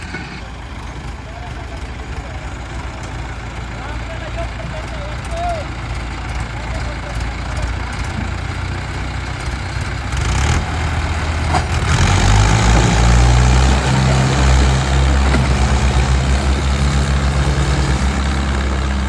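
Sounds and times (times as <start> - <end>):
tractor diesel engine labouring: 0.0 - 19.0.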